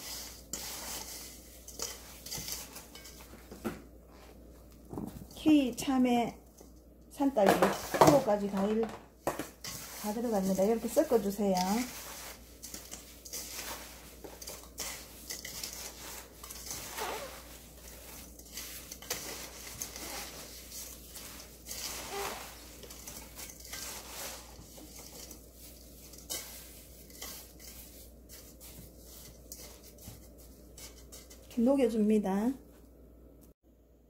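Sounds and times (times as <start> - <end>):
fruit and sugar rustling in bowl: 0.0 - 32.8.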